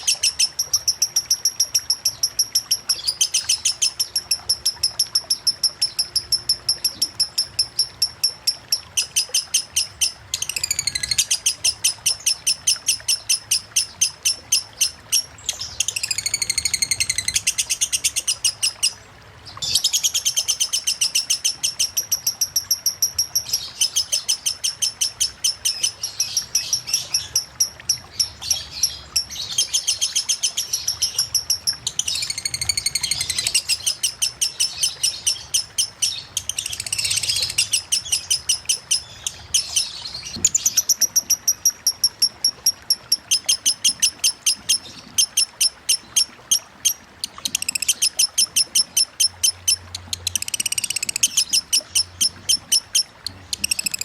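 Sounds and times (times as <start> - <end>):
lovebird ticking chatter: 0.0 - 19.0, 20.4 - 54.0.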